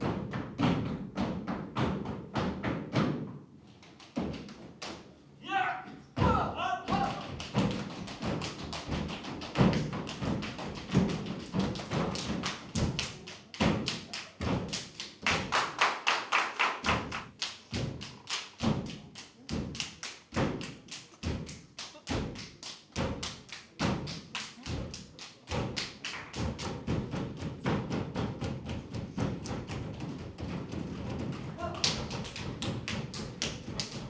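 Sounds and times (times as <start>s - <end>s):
dancers stamping and slapping: 0.0s - 5.1s, 6.2s - 16.0s, 16.8s - 34.0s.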